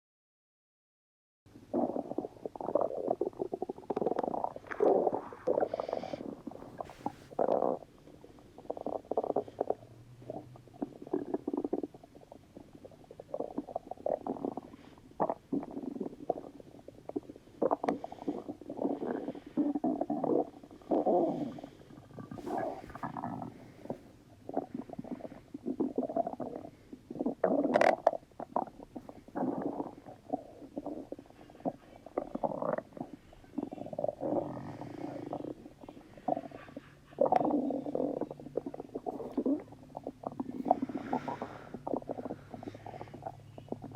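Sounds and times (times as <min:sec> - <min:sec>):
stomach rumbling: 0:01.6 - 0:43.9.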